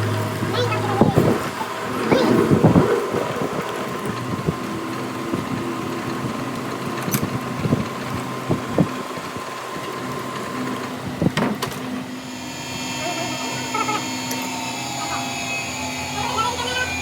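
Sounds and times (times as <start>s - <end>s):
motor running steadily: 0.0s - 17.0s.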